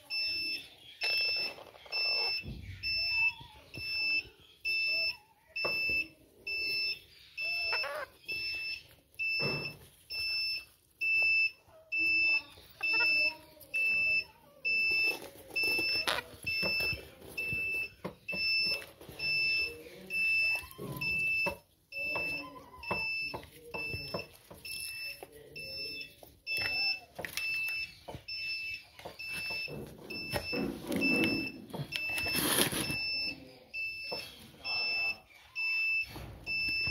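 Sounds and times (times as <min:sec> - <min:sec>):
faint voices: 0:00.0 - 0:36.9.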